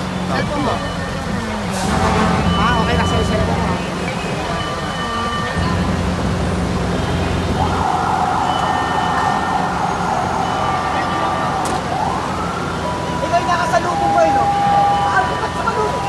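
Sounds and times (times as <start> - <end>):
emergency vehicle siren: 0.0 - 16.0
engine rumble: 0.0 - 16.0.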